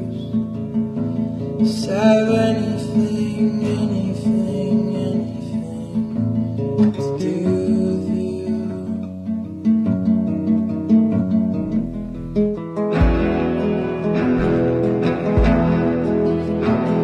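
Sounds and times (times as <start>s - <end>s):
acoustic guitar background music: 0.0s - 17.0s.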